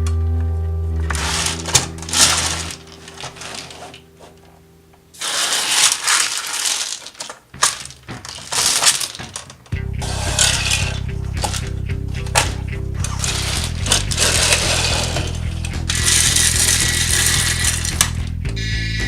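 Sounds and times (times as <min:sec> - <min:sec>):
background music: 0:00.0 - 0:19.0
beans rattling in toy trucks: 0:01.0 - 0:04.5, 0:05.2 - 0:18.3.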